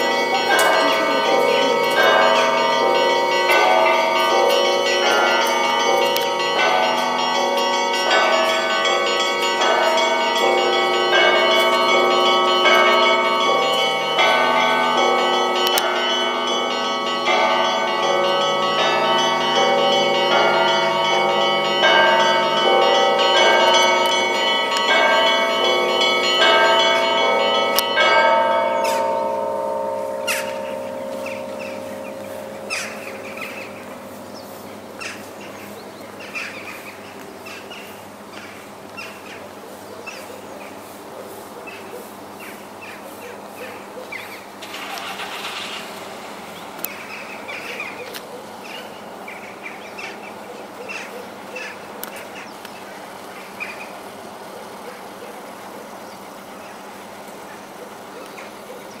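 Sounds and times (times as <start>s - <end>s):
large bells striking: 0.0s - 59.0s.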